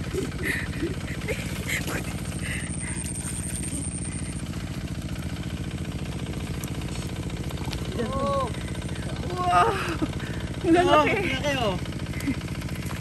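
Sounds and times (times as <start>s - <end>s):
machine running with low pulse: 0.0s - 13.0s.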